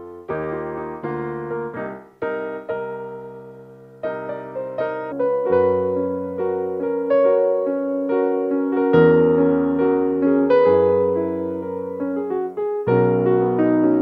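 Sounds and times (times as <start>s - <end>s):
solo piano playing gentle chords: 0.0s - 14.0s.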